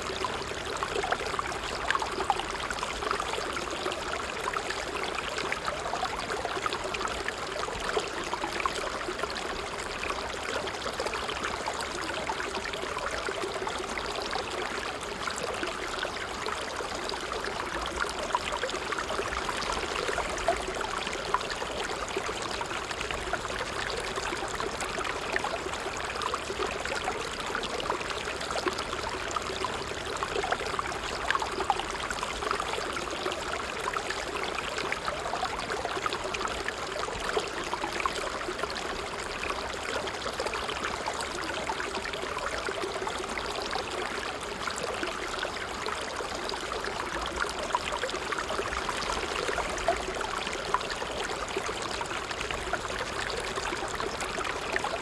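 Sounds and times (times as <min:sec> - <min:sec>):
water trickling and babbling: 0:00.0 - 0:55.0.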